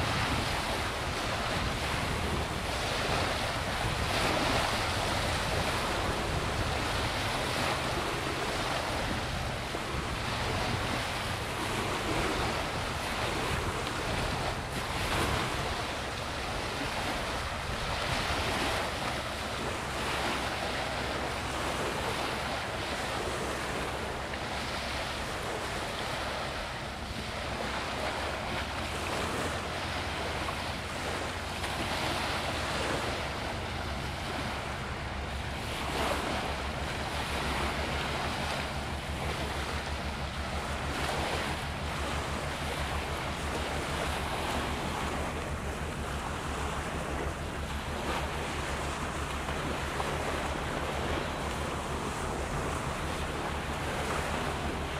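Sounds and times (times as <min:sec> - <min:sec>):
waves washing against rocks: 0:00.0 - 0:54.9
wind buffeting microphone: 0:00.0 - 0:54.9.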